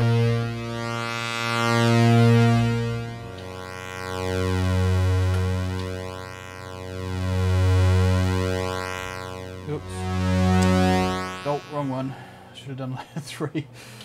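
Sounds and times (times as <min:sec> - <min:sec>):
synthesizer pulsing tone: 0:00.0 - 0:12.5.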